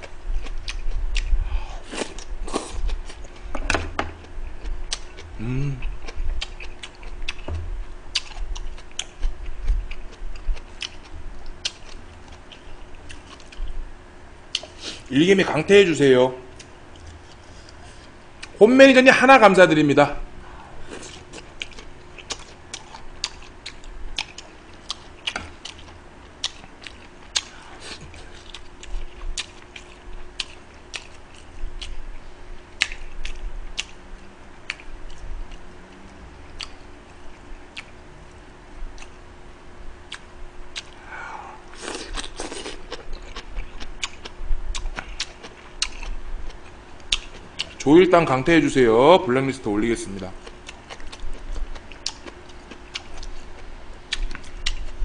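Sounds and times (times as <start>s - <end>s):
man chewing crunchy food: 0.0s - 13.8s, 14.5s - 15.1s, 20.8s - 39.2s, 40.1s - 47.8s, 50.1s - 55.0s.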